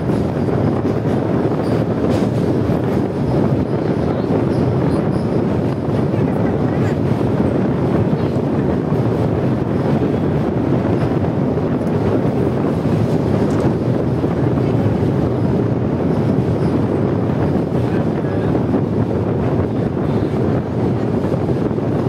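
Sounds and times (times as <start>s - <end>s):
train crossing steel bridge: 0.0s - 22.0s
wind on microphone: 0.0s - 22.0s.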